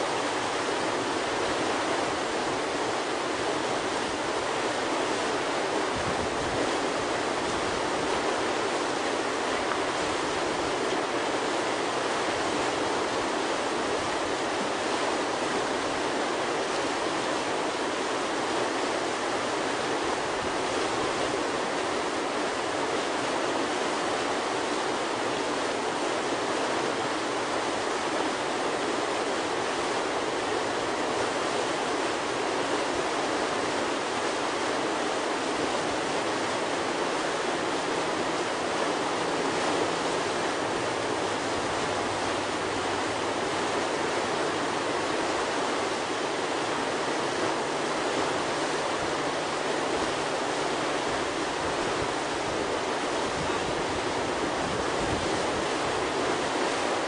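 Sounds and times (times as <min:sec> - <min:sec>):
whitewater roaring: 0:00.0 - 0:57.0.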